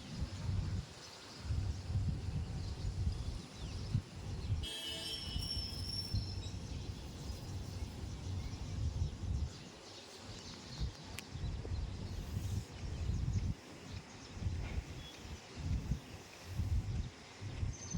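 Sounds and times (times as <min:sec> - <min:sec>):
wind buffeting microphone: 0:00.0 - 0:04.7, 0:05.9 - 0:17.9.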